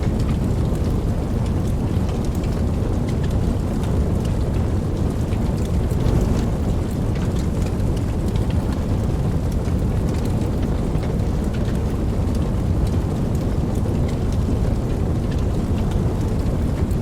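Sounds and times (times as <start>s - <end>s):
deep rumble: 0.0s - 17.0s
raindrops ticking: 0.0s - 17.0s
steady rain: 0.0s - 17.0s.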